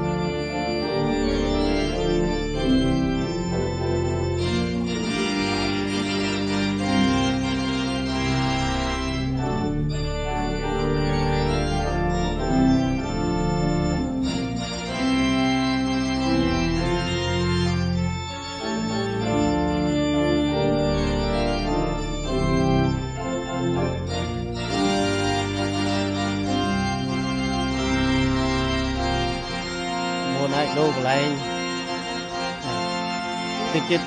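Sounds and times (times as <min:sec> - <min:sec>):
organ playing sustained chords: 0:00.0 - 0:34.0.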